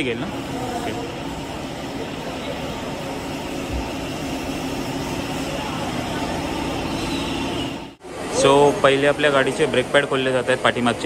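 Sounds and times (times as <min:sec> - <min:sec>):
air compressor running: 0:00.0 - 0:11.0
water pumps running: 0:00.0 - 0:11.0.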